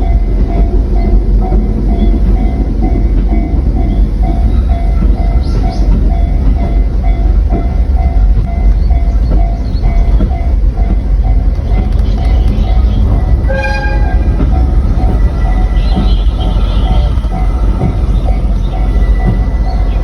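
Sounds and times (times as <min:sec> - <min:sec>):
rail cars rumbling and clattering: 0:00.0 - 0:20.0.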